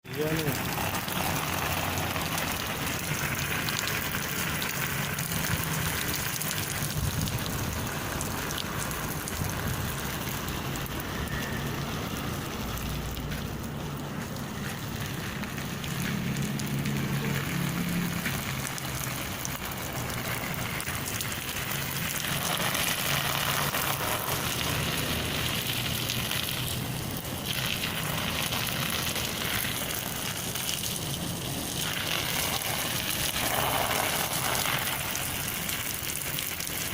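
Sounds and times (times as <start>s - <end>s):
water pattering onto a surface: 0.0s - 36.9s.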